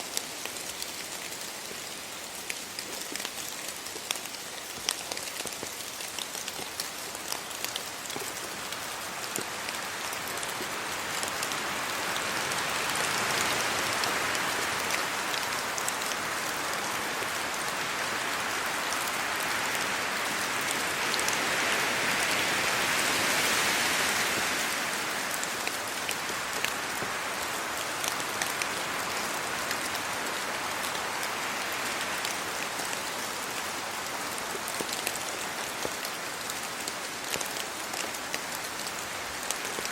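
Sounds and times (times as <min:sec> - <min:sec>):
rain falling on trees and road: 0:00.0 - 0:39.9.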